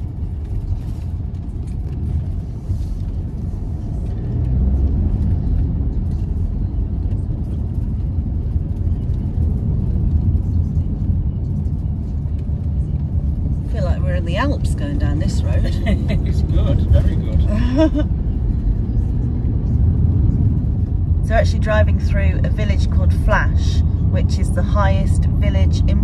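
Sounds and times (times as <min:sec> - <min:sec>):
car road noise inside cabin: 0:00.0 - 0:26.0.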